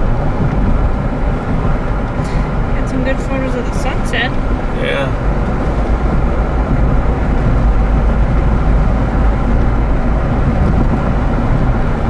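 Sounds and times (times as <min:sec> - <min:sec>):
car road noise and engine rumble: 0:00.0 - 0:12.0.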